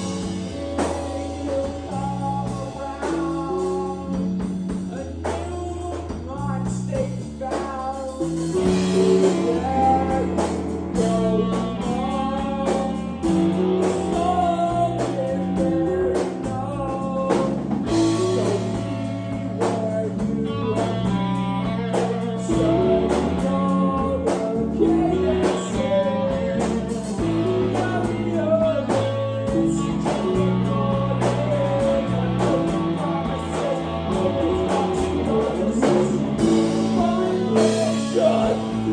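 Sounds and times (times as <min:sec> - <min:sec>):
blues guitar: 0:00.0 - 0:38.9
drum kit: 0:00.0 - 0:38.9
person singing: 0:00.0 - 0:38.9.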